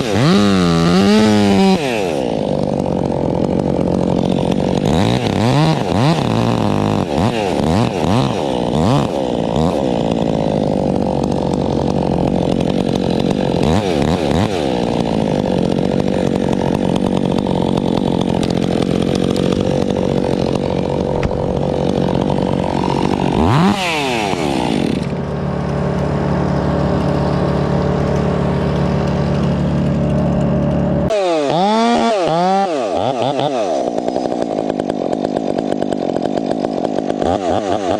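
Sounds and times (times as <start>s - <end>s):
chainsaw revving: 0.0s - 37.9s.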